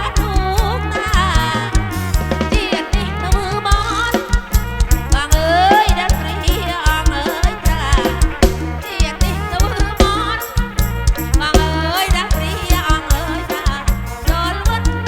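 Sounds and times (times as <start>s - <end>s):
folk music over loudspeakers: 0.0s - 15.0s
heavy repeating bass beat: 0.0s - 15.0s.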